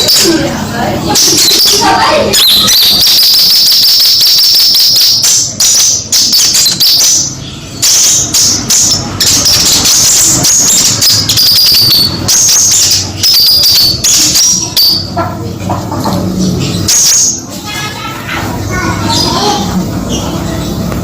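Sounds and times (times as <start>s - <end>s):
bird chirping and trilling: 0.0s - 21.0s.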